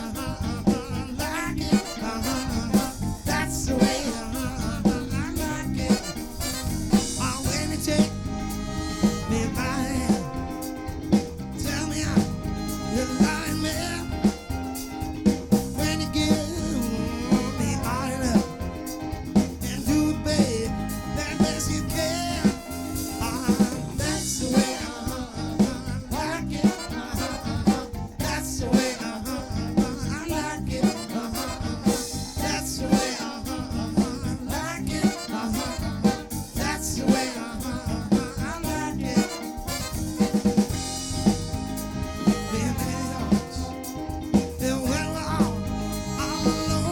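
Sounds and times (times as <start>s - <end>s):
live band playing: 0.0s - 46.9s
snare and bass drum beat: 0.0s - 46.9s.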